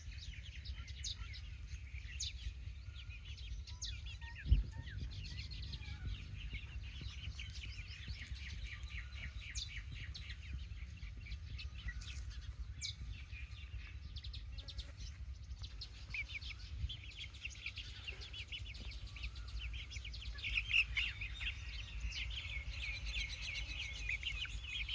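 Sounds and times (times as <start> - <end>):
steady low rumble: 0.0 - 24.9
chicks peeping: 0.1 - 24.9.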